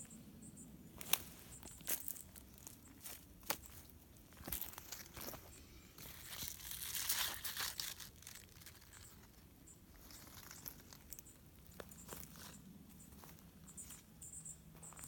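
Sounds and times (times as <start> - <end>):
leaves rustling against microphone: 0.8 - 14.1.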